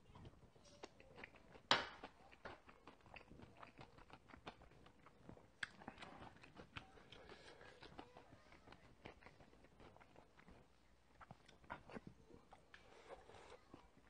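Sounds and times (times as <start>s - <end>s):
person chewing: 0.1s - 14.0s.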